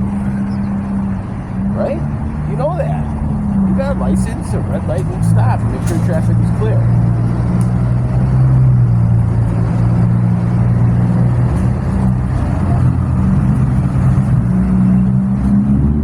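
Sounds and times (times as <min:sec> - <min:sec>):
diesel engine idling: 0:00.0 - 0:15.4.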